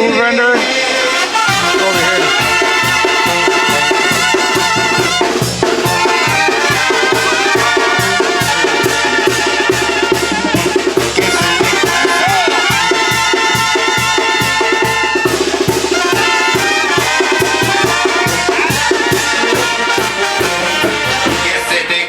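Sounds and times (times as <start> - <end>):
brass band music with drums: 0.0 - 22.0.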